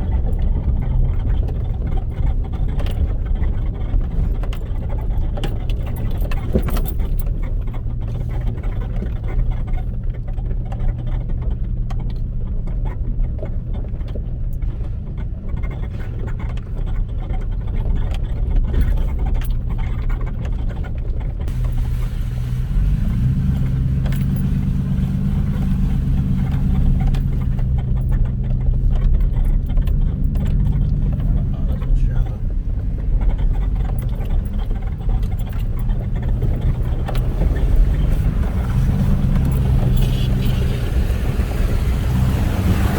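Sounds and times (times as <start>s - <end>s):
interior rattling and clicking: 0.0s - 42.9s
vehicle engine drone: 0.0s - 42.9s.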